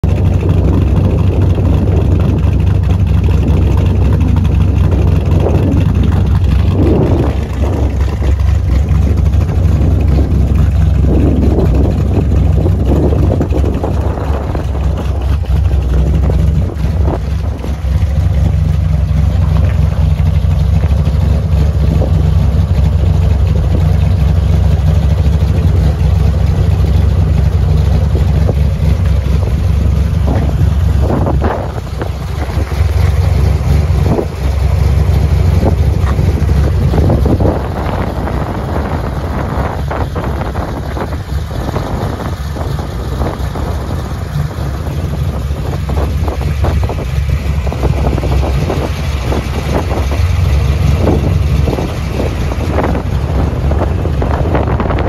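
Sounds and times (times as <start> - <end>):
car engine idling: 0.0 - 55.0
wind buffeting microphone: 0.0 - 55.0.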